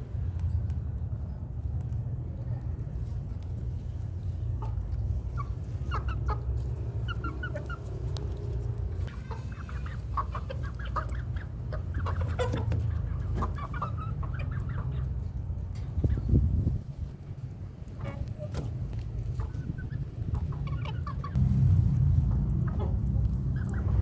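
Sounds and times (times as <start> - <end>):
steady low rumble: 0.0 - 24.0
chickens clucking: 4.4 - 24.0.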